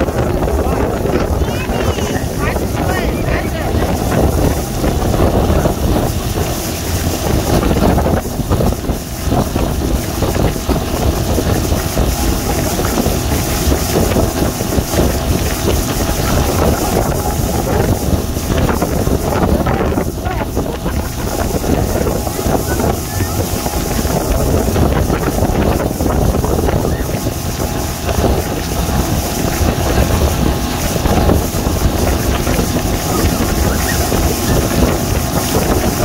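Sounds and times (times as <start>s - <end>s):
churning boat wake: 0.0s - 36.0s
motorboat engine running: 0.0s - 36.0s
wind buffeting microphone: 0.0s - 36.0s.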